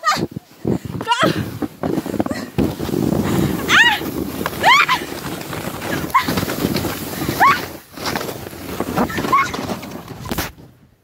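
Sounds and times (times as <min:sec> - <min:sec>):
plastic sled scraping on snow: 0:00.0 - 0:10.9.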